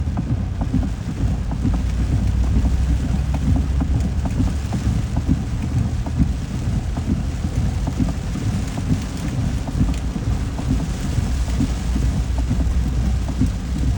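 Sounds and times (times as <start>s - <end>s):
constant low rumble: 0.0s - 13.9s
heavy rain: 0.0s - 13.9s
raindrops tapping on a surface: 0.0s - 13.9s.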